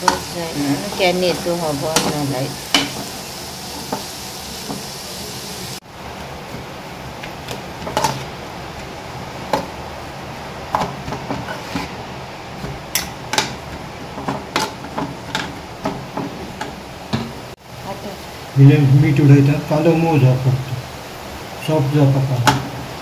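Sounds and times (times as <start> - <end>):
onions sizzling in a pan: 0.0 - 23.0.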